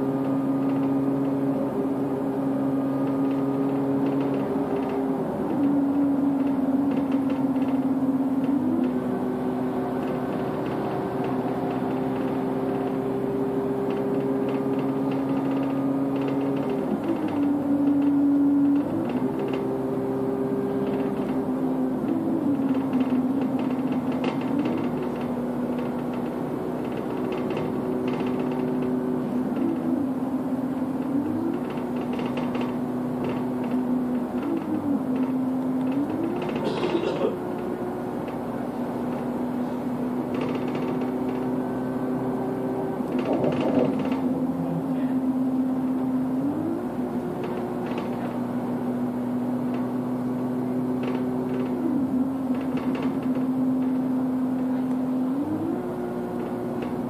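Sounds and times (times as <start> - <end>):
bus engine whine: 0.0 - 57.0.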